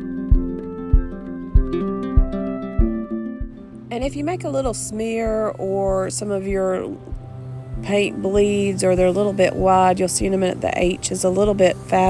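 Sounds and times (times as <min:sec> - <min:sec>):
steady low beat: 0:00.0 - 0:11.7
plucked string melody: 0:00.0 - 0:12.0.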